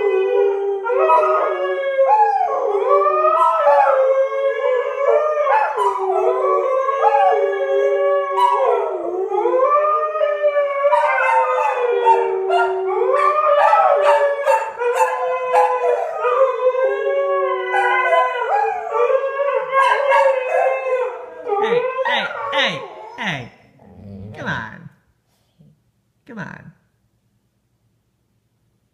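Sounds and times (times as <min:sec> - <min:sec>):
dogs howling together: 0:00.0 - 0:23.2.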